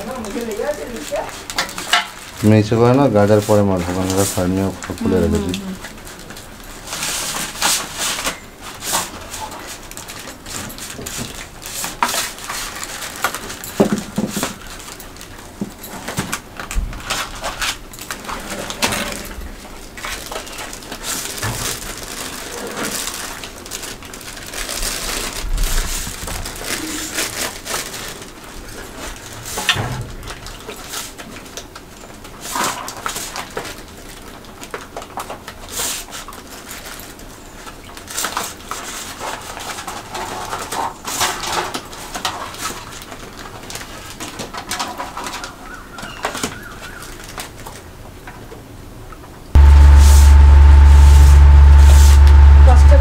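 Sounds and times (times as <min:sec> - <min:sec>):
aluminium foil containers crinkling: 0:00.0 - 0:47.9.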